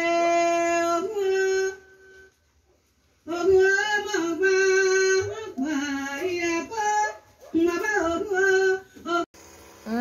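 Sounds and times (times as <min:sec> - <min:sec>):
woman singing unaccompanied: 0:00.0 - 0:02.3, 0:03.2 - 0:10.0.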